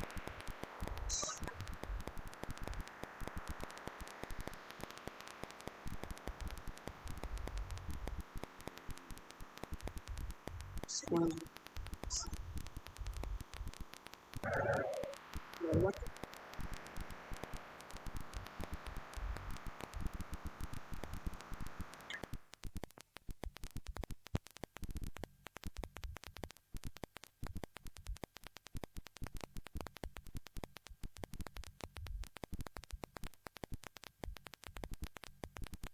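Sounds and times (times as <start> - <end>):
static crackle: 0.0 - 35.9
static hiss: 0.0 - 35.9.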